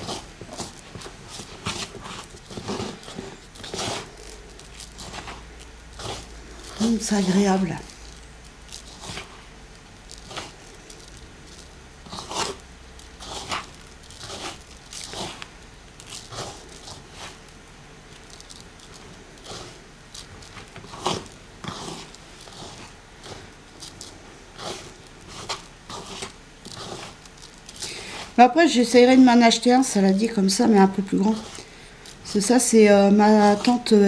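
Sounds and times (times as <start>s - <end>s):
grains rustling in a bowl: 0.0s - 34.0s.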